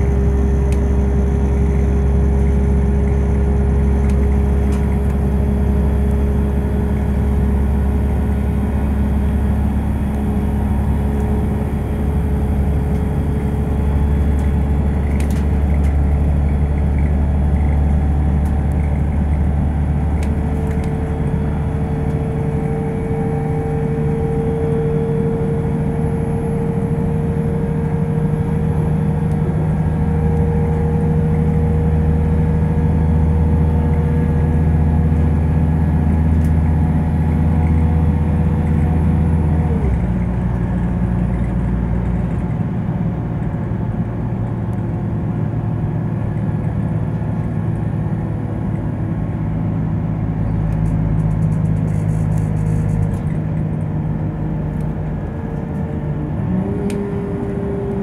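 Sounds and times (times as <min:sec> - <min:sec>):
low diesel drone: 0:00.0 - 0:58.0.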